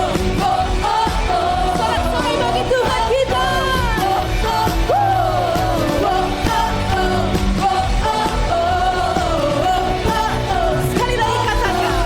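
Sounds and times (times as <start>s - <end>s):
voices singing melody: 0.0s - 12.0s
worship band playing pop-rock: 0.0s - 12.0s.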